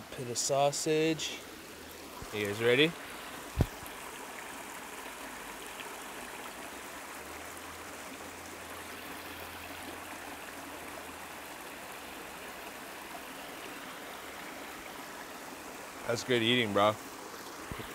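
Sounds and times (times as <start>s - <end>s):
stream flowing water: 0.0s - 17.9s.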